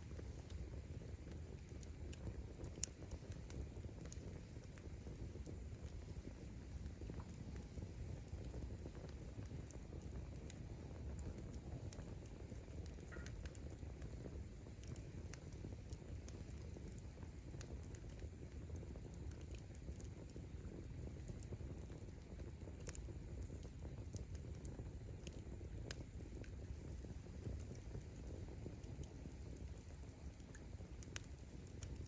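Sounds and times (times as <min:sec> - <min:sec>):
bonfire flames rumbling: 0:00.0 - 0:32.0
firewood crackling and popping: 0:00.0 - 0:32.0.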